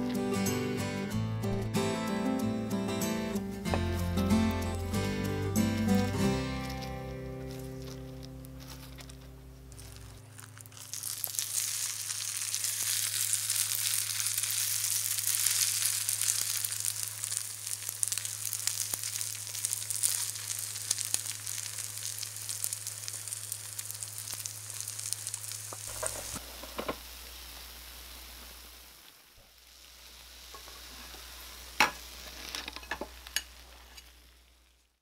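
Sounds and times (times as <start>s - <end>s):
batter sizzling and crackling: 3.1s - 35.0s.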